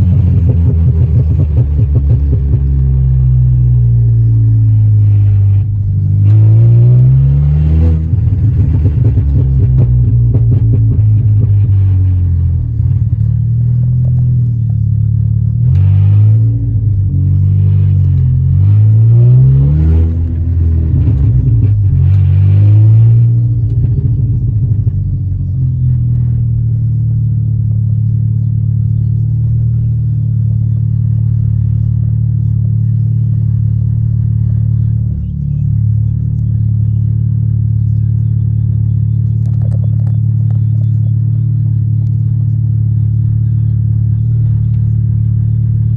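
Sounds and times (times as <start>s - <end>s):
car engine revving and accelerating: 0.0s - 45.9s.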